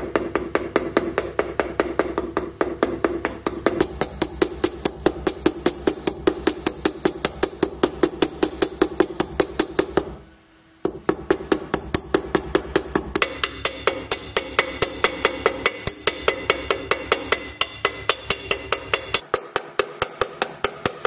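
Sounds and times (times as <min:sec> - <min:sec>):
small hammer tapping on steel: 0:00.0 - 0:10.2, 0:10.9 - 0:21.0.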